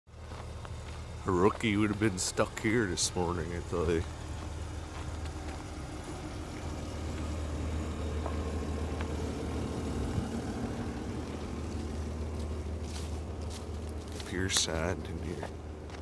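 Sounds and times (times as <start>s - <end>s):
excavator diesel engine running: 0.1s - 16.0s.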